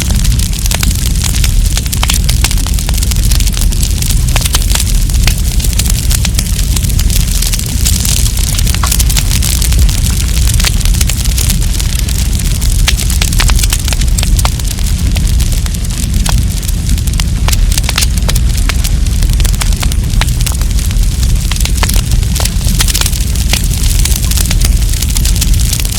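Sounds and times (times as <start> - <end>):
campfire crackling: 0.0 - 25.9.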